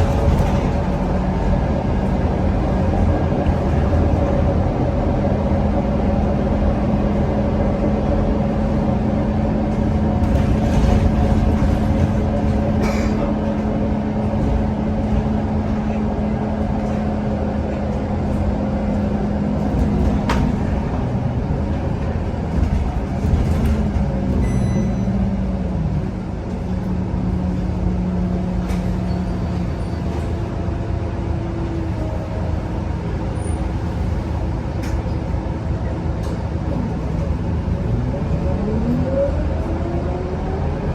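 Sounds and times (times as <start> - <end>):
bus engine humming: 0.0 - 40.9
road noise: 0.0 - 40.9.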